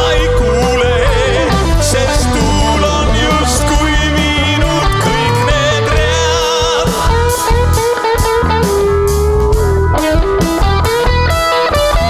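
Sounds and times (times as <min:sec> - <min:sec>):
bass guitar: 0:00.0 - 0:12.0
drums: 0:00.0 - 0:12.0
electric guitar sliding lead: 0:00.0 - 0:12.0.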